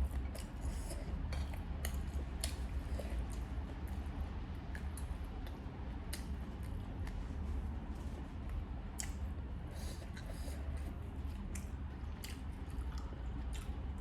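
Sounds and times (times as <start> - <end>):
chewing with wet mouth clicks: 0.0 - 7.3, 8.4 - 14.0
steady low hum: 0.0 - 14.0.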